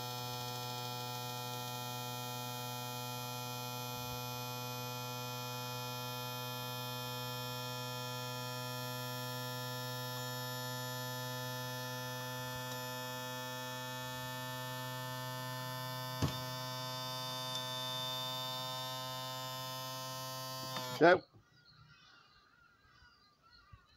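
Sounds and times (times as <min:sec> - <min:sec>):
electric motor and pump humming: 0:00.0 - 0:21.0.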